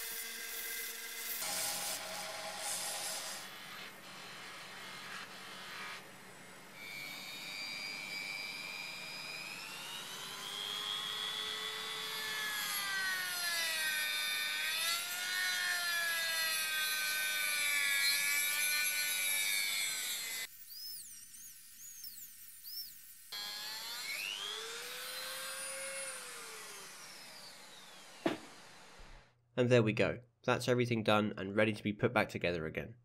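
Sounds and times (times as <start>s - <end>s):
rotary tool cutting disc whining: 0.0s - 29.1s.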